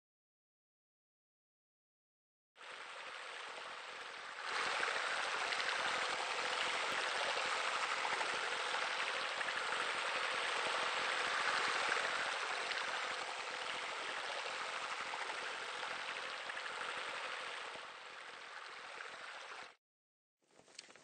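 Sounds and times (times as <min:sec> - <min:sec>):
water splashing into pool: 0:02.6 - 0:19.8.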